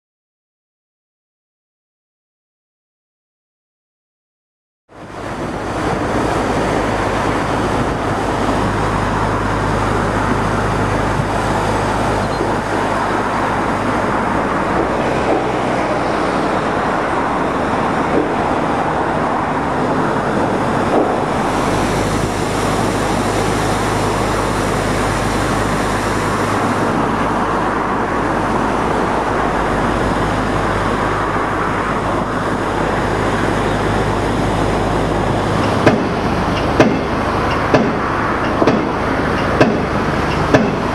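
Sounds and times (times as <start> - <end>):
machinery engine hum: 4.9 - 40.9
water rushing over weir: 4.9 - 40.9.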